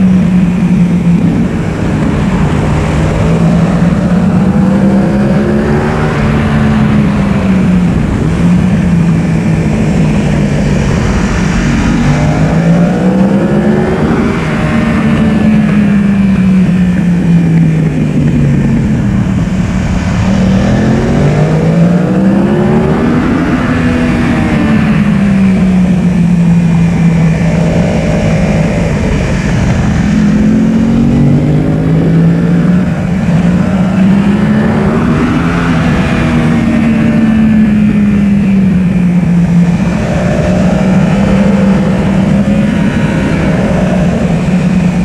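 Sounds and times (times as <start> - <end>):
heavy wind noise: 0.0 - 45.0
motorcycle engine at speed: 0.0 - 45.0.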